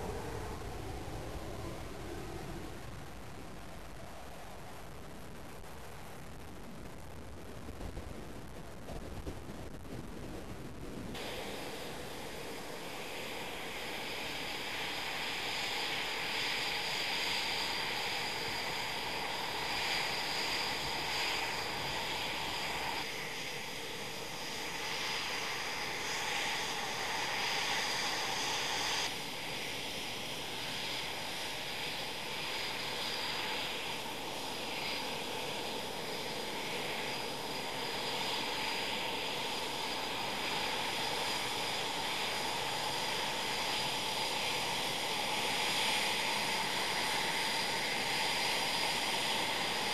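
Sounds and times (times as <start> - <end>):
high turbine whine: 0.0 - 49.9
jet engines running: 0.0 - 49.9.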